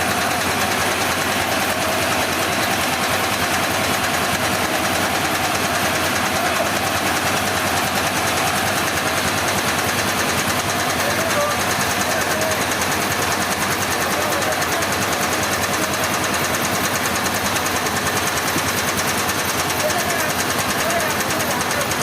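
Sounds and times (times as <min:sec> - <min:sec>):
sawmill engine droning: 0:00.0 - 0:22.0.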